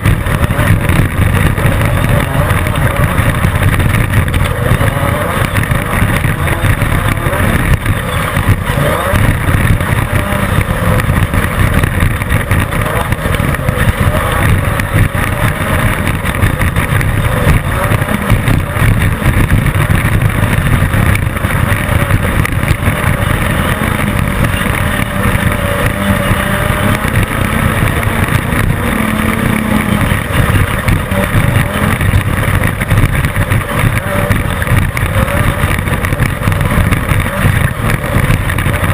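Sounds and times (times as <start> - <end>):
knocks and rattles: 0.0 - 38.9
race car engine rumble: 0.0 - 38.9.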